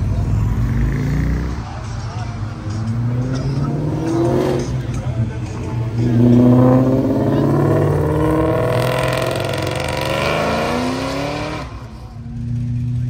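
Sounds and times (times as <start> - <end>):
car accelerating: 0.0 - 13.0.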